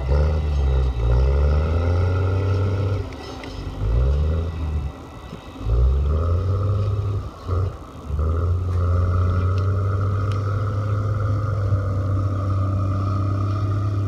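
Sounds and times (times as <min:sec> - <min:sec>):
hauler engine revving: 0:00.0 - 0:14.0
steady whine: 0:00.0 - 0:14.0.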